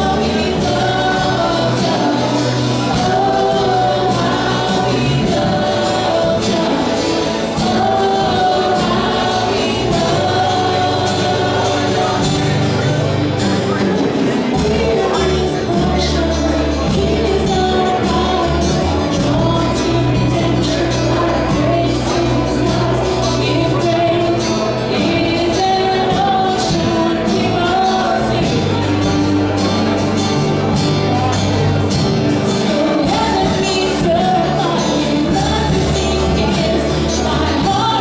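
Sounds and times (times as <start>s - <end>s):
live band and singers: 0.0s - 38.0s.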